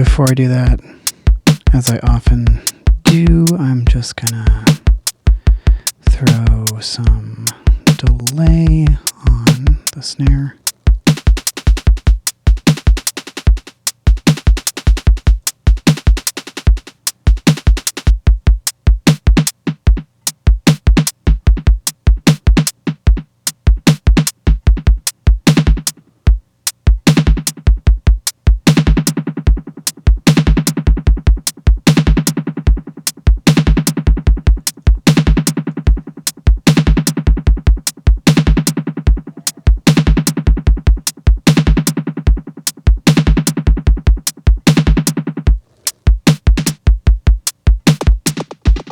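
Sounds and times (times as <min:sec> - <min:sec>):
drum machine beat: 0:00.0 - 0:48.9.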